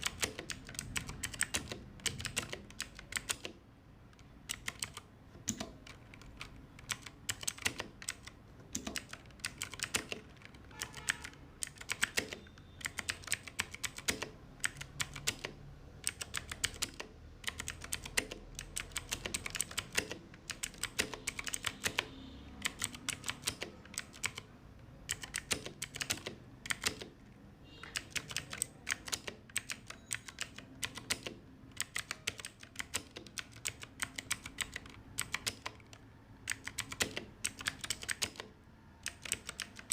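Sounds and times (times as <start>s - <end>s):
clicky mechanical keyboard typing: 0.0s - 27.2s, 27.8s - 39.9s.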